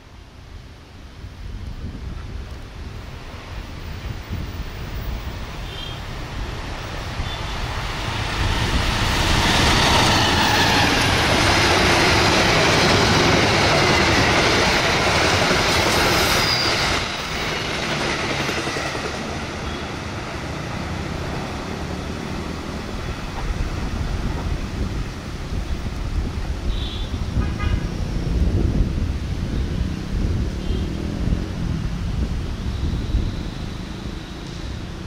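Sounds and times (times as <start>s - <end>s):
passenger train passing: 0.0s - 35.0s.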